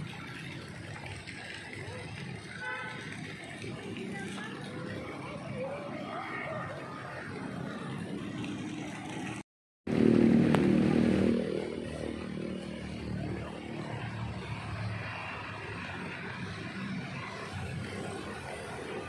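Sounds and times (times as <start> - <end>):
engine passing: 0.0 - 19.0
motor traffic: 0.0 - 19.0.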